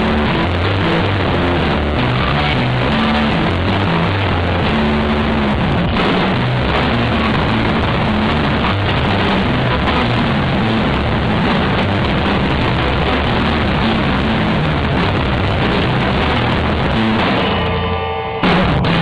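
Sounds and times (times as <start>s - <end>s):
electric bass line: 0.0s - 19.0s
live rock band playing: 0.0s - 19.0s.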